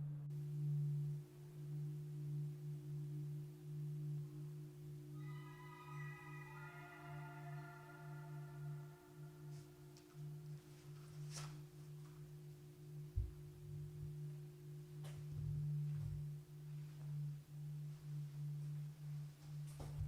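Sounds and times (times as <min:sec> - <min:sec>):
faint higher tone: 0:00.0 - 0:20.0
low electronic hum: 0:00.0 - 0:20.0.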